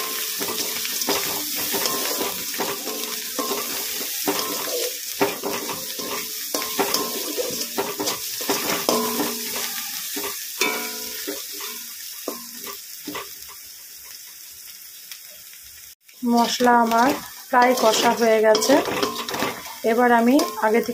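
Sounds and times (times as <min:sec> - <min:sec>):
spatula scraping a pan: 0:00.0 - 0:13.4, 0:16.3 - 0:20.9
masala sizzling in oil: 0:00.0 - 0:20.9.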